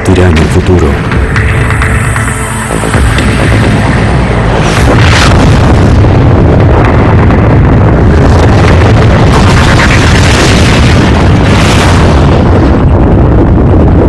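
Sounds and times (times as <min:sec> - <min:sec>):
loud continuous shock wave rumble: 0:00.0 - 0:14.0
explosion blast: 0:00.1 - 0:14.0
debris crackle: 0:00.3 - 0:14.0.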